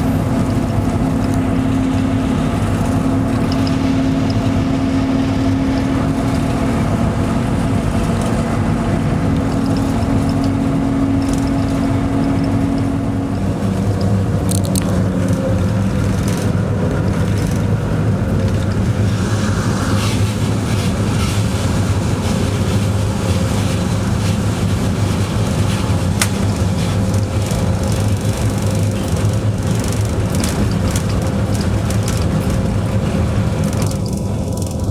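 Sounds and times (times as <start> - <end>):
locomotive machinery hum: 0.0 - 34.9
train rumbling on rails: 0.0 - 34.9.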